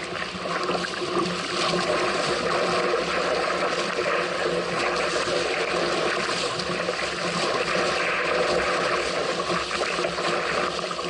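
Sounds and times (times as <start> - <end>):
water rushing along a hull: 0.0 - 11.0.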